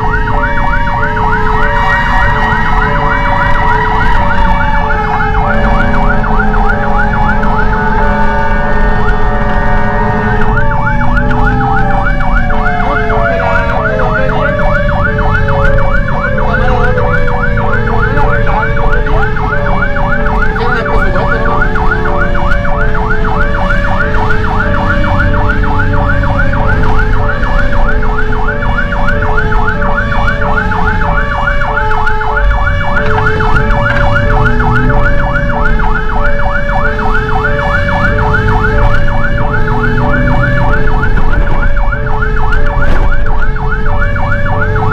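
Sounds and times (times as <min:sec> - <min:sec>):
electronic siren yelp: 0:00.0 - 0:44.9
siren winding down: 0:00.0 - 0:44.9
truck engine rumble: 0:00.0 - 0:44.9
two-tone hi-lo siren: 0:00.0 - 0:44.9.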